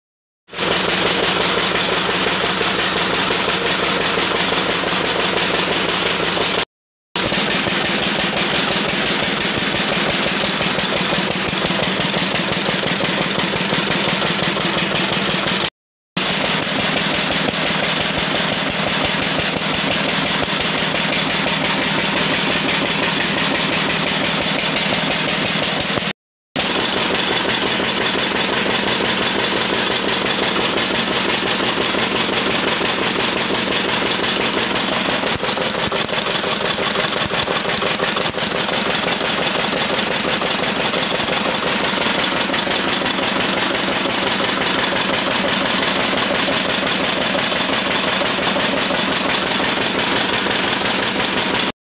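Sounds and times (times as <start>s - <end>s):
diesel engine running steadily: 0.5s - 51.7s.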